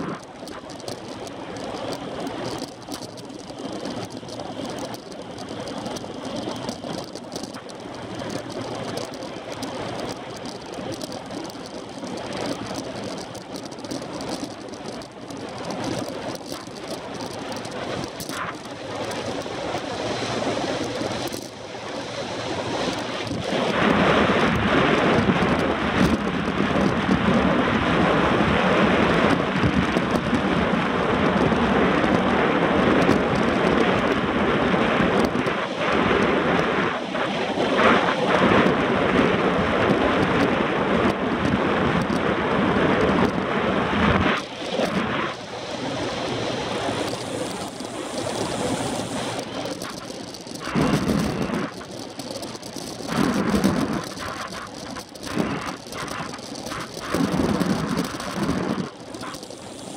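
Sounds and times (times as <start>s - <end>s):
tyre and road noise: 0.0s - 59.9s
wind rushing over microphone: 0.0s - 59.9s.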